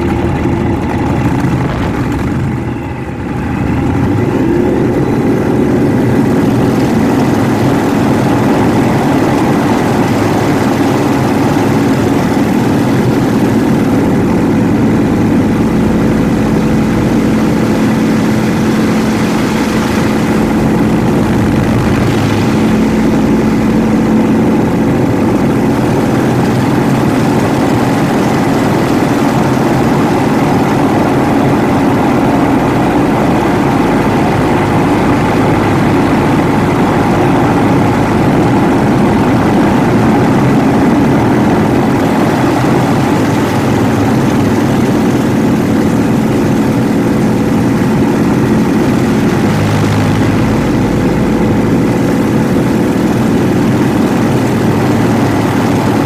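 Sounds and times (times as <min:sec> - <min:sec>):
radial aircraft engine and propeller: 0:00.0 - 0:56.0.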